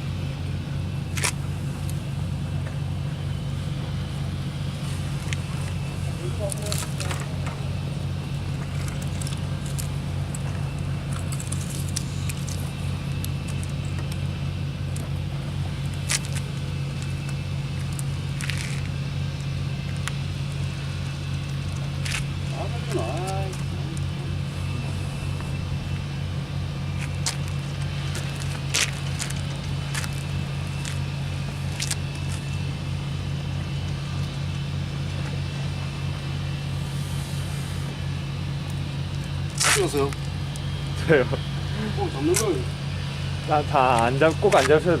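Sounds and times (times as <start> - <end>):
low pulsing engine hum: 0.0 - 45.0.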